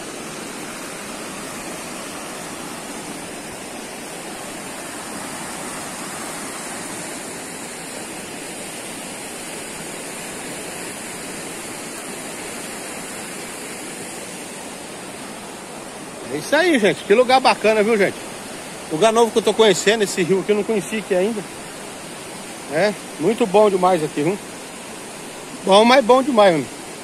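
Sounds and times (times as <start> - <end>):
river water rushing over rocks: 0.0 - 27.0.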